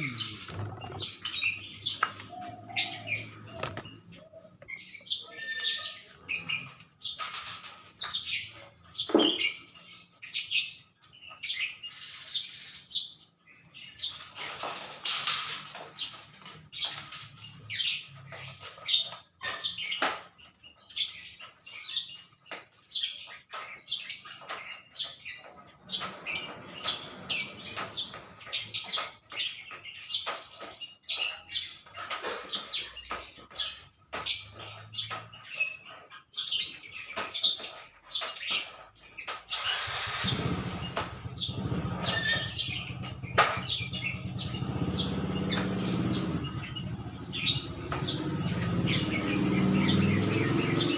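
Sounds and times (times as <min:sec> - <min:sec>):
small birds chirping rapidly: 0:00.0 - 0:50.9.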